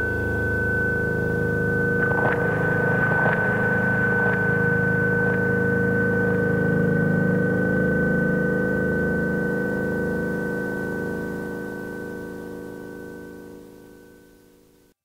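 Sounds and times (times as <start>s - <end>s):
ambient music drone: 0.0s - 14.6s.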